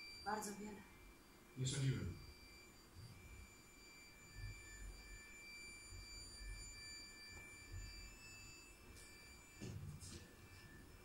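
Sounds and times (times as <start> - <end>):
faint high steady tones: 0.0 - 11.0.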